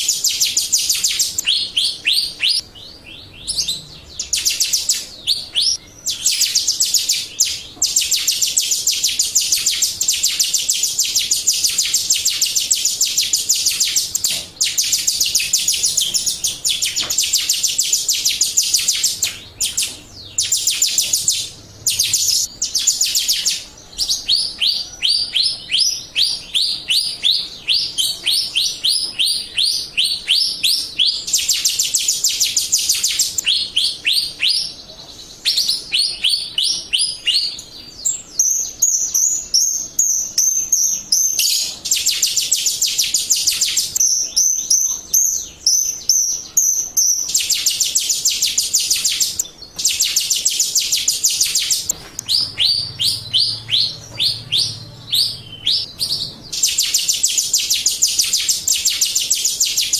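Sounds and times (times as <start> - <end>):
bird song trills: 0.0 - 59.9
sweeping bird notes: 0.0 - 59.9.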